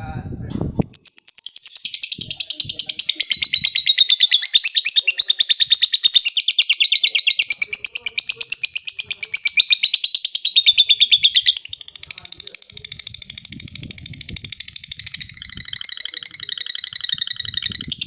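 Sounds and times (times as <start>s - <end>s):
bird rapid shrill chatter: 0.8s - 18.0s.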